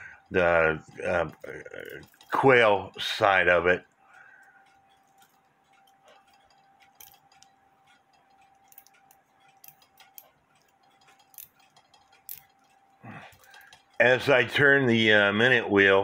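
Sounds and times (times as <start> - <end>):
clock mechanism light clicks: 0.0 - 16.0
faint steady hum: 0.0 - 16.0.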